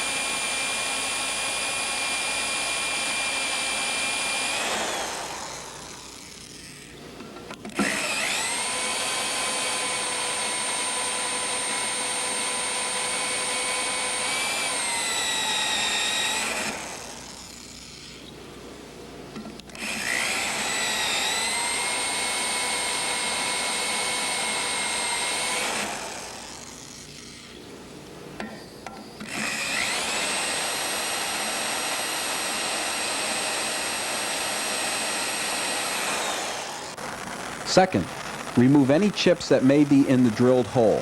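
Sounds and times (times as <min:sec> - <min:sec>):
electric drill cutting into bolt: 0:00.0 - 0:06.9, 0:07.6 - 0:18.2, 0:19.6 - 0:27.5, 0:29.2 - 0:39.3.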